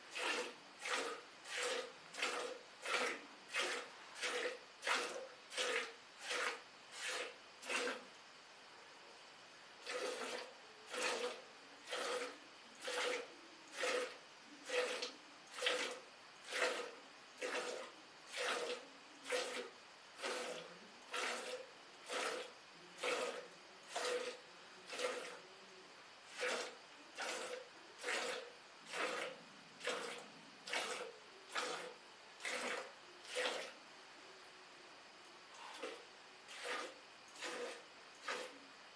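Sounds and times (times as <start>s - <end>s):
milk squirting into steel bucket: 0.0s - 8.1s, 9.8s - 25.4s, 26.2s - 33.8s, 35.6s - 38.6s.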